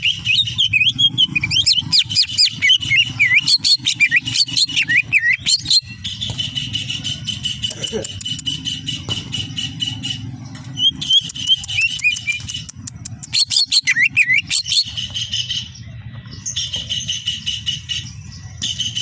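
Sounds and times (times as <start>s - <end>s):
bird chattering trills: 0.0s - 19.0s.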